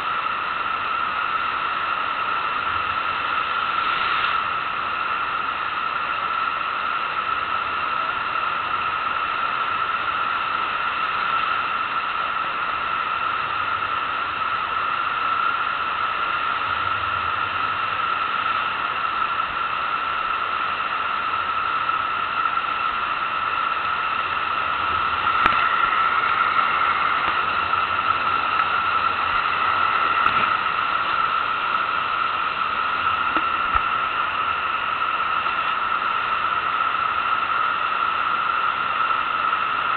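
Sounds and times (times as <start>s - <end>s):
rushing pumped water: 0.0s - 39.9s.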